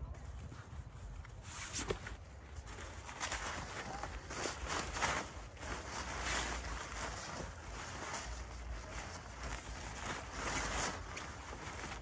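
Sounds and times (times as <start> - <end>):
foil crinkling and rustling: 1.7 - 12.0.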